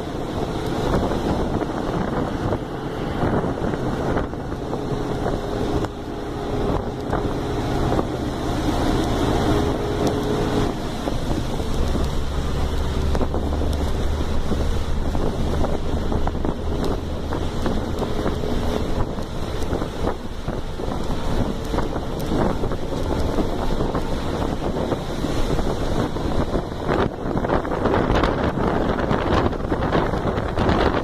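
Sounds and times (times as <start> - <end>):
low engine hum: 0.0 - 31.0
road and wind noise: 0.0 - 31.0.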